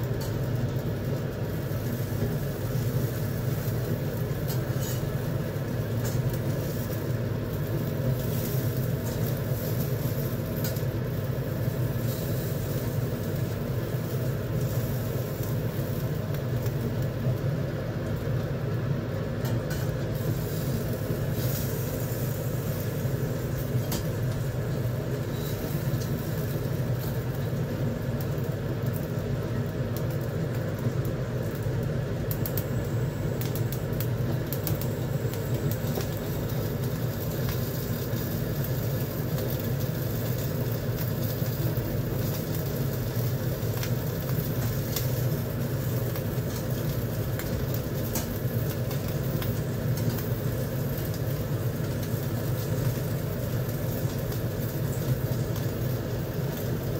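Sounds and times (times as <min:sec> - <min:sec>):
gas burner flame roar: 0:00.0 - 0:56.9.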